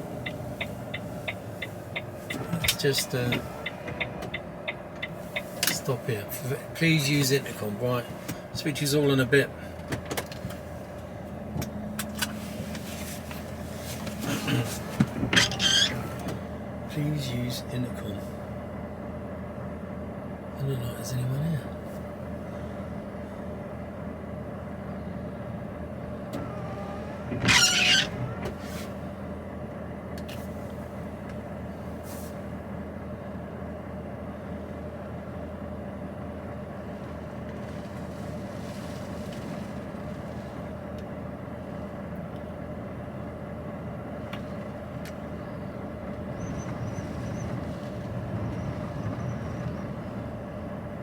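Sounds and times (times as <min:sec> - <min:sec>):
lorry diesel engine idling: 0:00.0 - 0:51.0.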